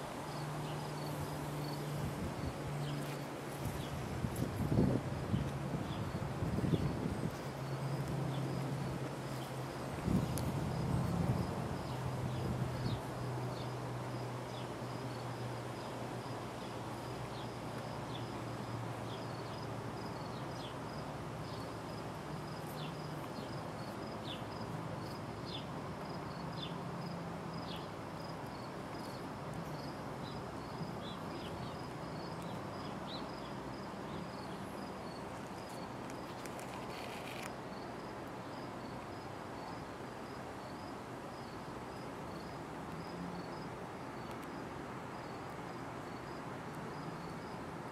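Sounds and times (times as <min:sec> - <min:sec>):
cricket chirping: 0:00.0 - 0:04.0, 0:04.7 - 0:47.9.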